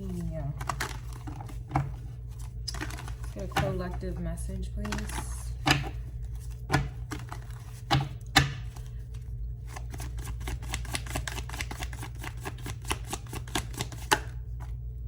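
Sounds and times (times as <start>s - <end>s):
cards being shuffled: 0.0s - 14.8s.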